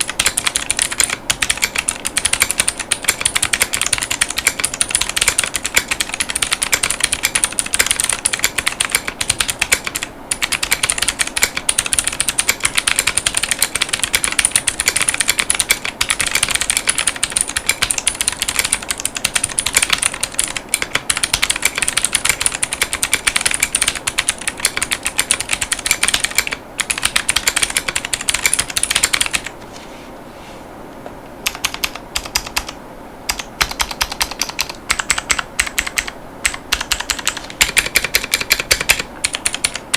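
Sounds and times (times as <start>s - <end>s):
mechanical keyboard typing: 0.0s - 29.5s, 31.4s - 39.9s.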